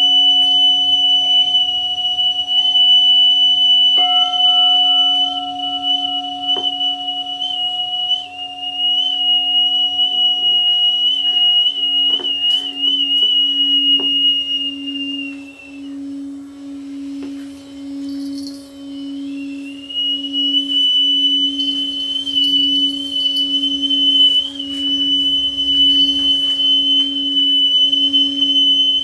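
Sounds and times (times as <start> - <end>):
high piercing flute tone: 0.0 - 29.0
singing bowl ringing: 0.0 - 29.0.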